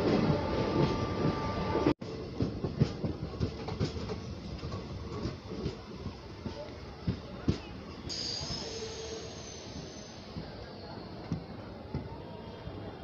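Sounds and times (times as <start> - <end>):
train rumble and rushing air: 0.0 - 13.0.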